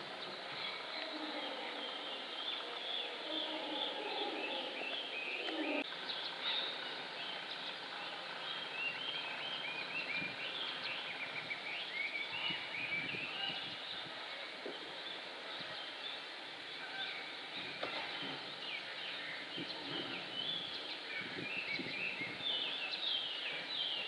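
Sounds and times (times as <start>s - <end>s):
outdoor background noise: 0.0s - 24.0s
small birds chirping: 0.0s - 24.0s.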